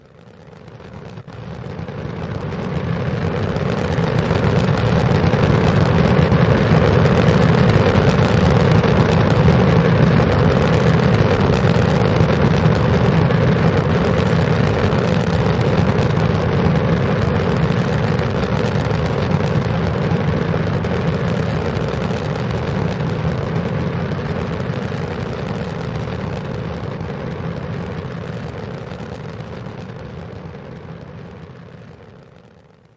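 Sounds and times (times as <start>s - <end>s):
rocket engine roaring: 0.0s - 32.8s.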